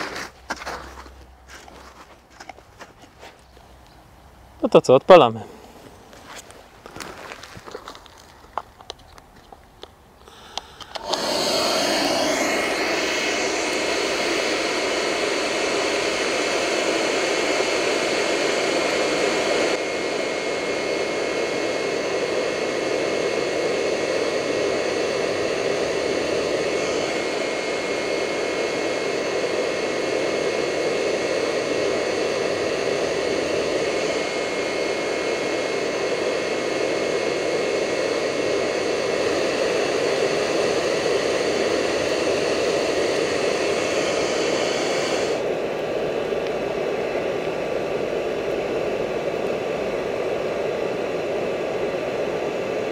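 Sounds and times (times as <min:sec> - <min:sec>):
hair dryer blowing air: 0:10.2 - 0:52.9.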